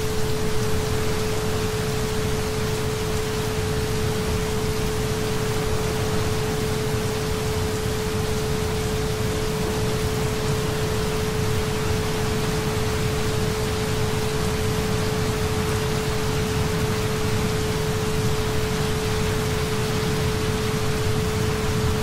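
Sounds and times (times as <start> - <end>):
constant pure tone: 0.0 - 22.0
steady rain: 0.0 - 22.0.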